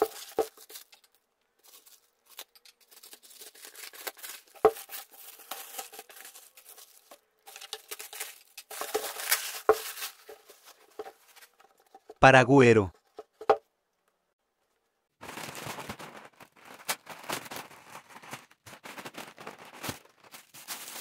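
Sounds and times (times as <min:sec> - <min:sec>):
plastic bag tearing and crinkling: 0:00.0 - 0:11.5, 0:15.2 - 0:21.0.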